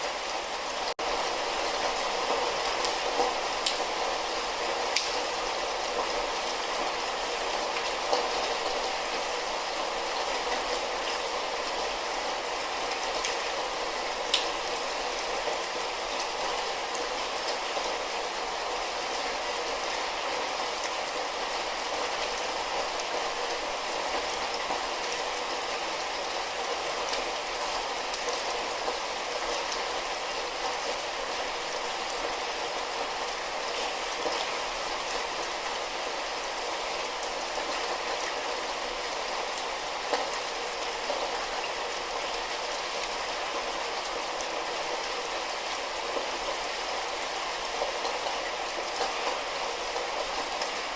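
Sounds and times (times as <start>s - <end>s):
light rain falling: 0.0s - 50.9s.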